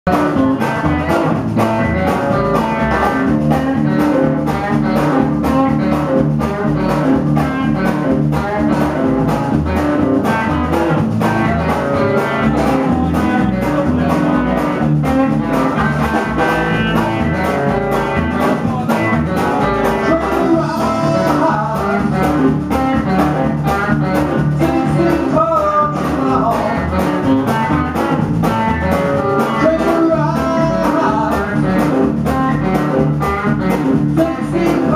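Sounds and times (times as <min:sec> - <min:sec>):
guitar: 0:00.0 - 0:34.9
drum kit: 0:00.1 - 0:34.9
upright double bass: 0:00.1 - 0:34.9.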